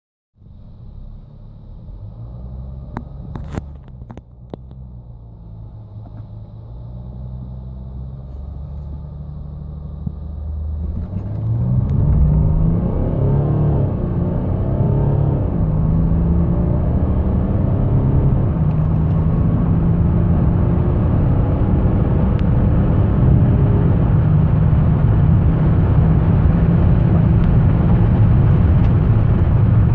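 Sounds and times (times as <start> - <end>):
diesel engine accelerating through gears: 0.4 - 29.9.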